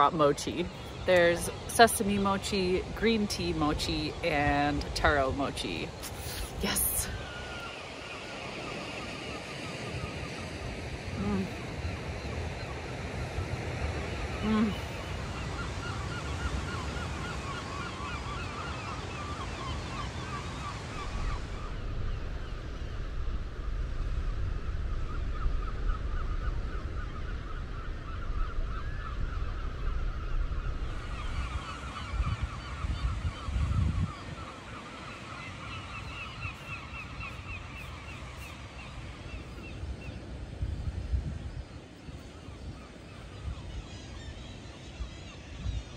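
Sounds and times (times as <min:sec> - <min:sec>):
gulls calling: 0:00.0 - 0:22.8, 0:25.1 - 0:45.9
wind: 0:00.0 - 0:45.9.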